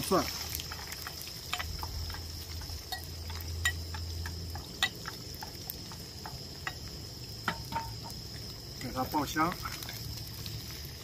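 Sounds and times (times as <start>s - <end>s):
aromatics sizzling in hot oil: 0.0s - 11.0s.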